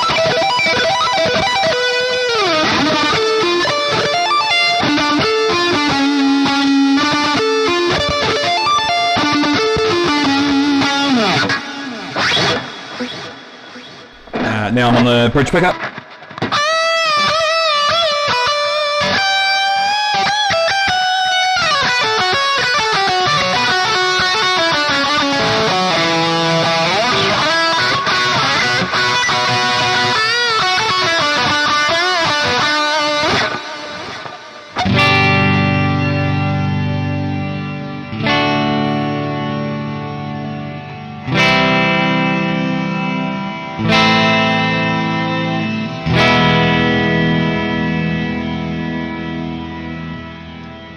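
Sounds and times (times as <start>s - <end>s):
electric guitar lead playing: 0.0s - 14.4s, 15.7s - 50.9s.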